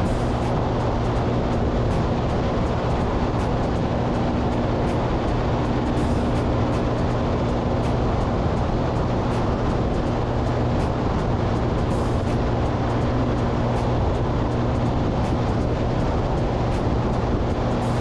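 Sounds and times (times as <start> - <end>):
low engine hum: 0.0 - 18.0
road and wind noise: 0.0 - 18.0.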